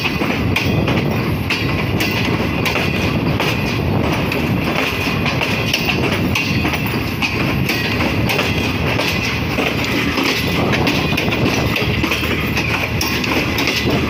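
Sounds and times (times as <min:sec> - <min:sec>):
train wheels rumbling on rail: 0:00.0 - 0:14.0
wheels clicking over rail joints: 0:00.0 - 0:14.0.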